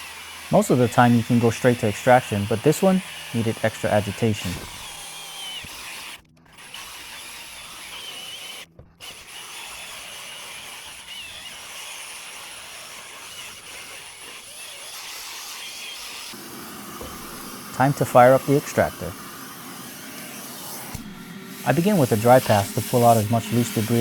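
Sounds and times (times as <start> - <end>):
drill brush scrubbing fabric: 0.0 - 24.0.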